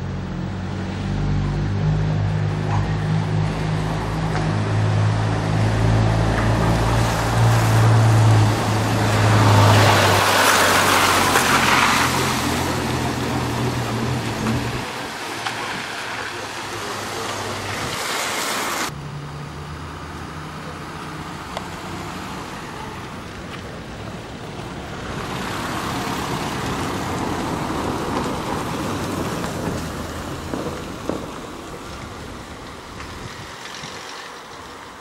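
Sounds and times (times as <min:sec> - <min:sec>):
vehicle passing: 0:00.5 - 0:32.5.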